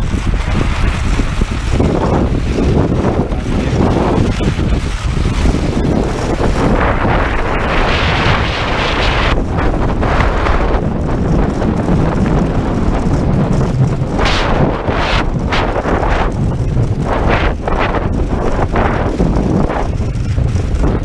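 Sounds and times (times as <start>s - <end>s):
skis sliding over snow: 0.0s - 21.0s
wind buffeting microphone: 0.0s - 21.0s.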